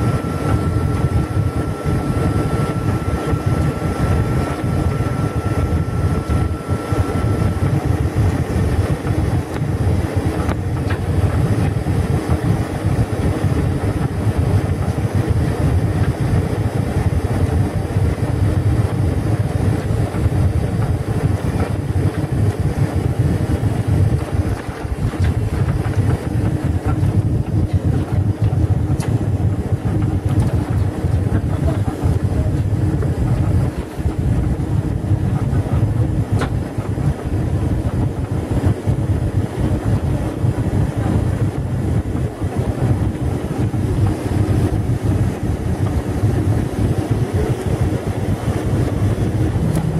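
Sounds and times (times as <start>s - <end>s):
aircraft engine rumble: 0.0s - 49.9s.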